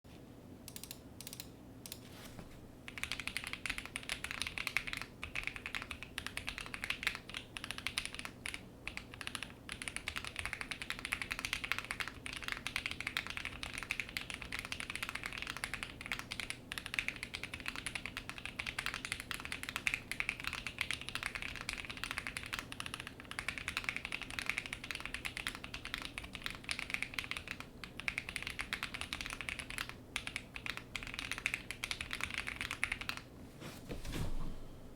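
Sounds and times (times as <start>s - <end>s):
mechanical keyboard typing: 0.7s - 2.0s, 2.9s - 33.2s.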